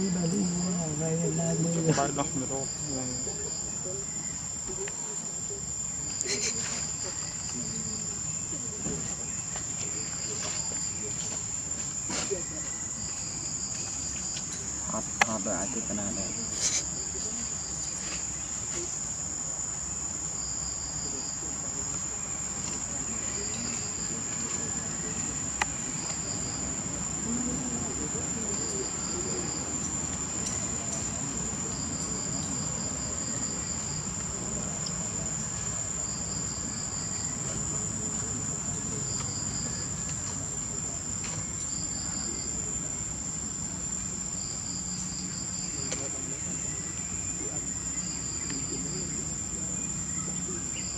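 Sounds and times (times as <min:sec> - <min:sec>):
insects droning high-pitched: 0:00.0 - 0:50.9.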